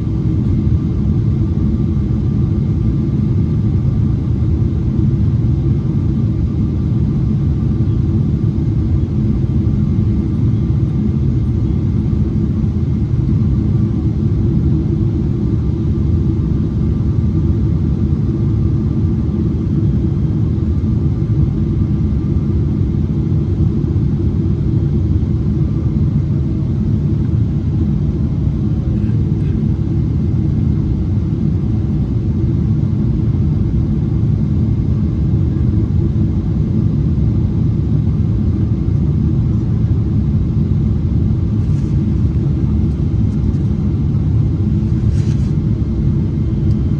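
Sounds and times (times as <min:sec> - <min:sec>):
airplane cabin roar: 0:00.0 - 0:46.9
faint steady whine: 0:00.0 - 0:46.9.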